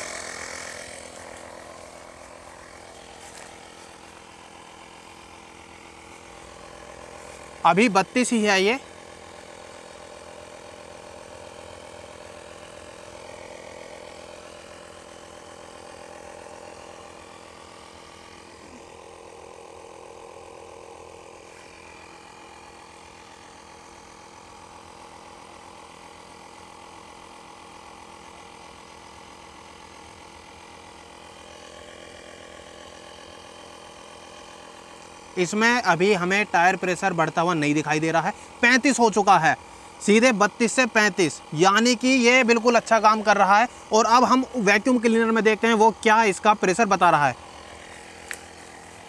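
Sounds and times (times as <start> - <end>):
tyre inflator compressor humming: 0.0 - 49.0.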